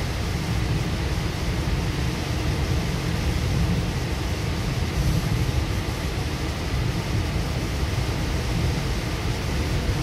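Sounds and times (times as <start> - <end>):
train running gear rumble: 0.0 - 10.0.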